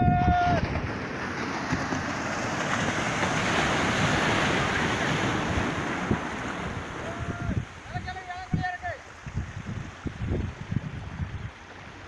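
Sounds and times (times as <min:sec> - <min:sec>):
sea waves breaking on shore: 0:00.0 - 0:12.0
wind rumbling on microphone: 0:00.0 - 0:12.0.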